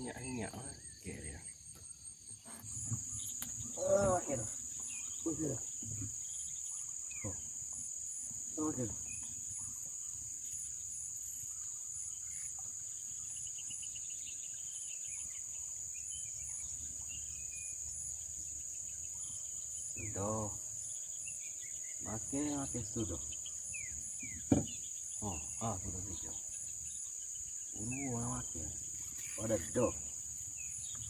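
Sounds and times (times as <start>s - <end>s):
faint bird chirps: 0.0s - 31.0s
high-pitched insect drone: 0.0s - 31.0s
pulsing insect call: 0.0s - 31.0s.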